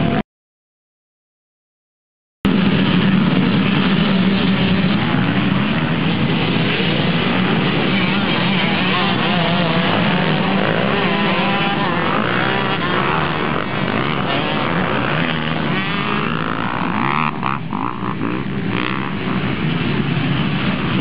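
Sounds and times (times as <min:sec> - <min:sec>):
motocross bikes revving and accelerating: 0:02.5 - 0:21.0.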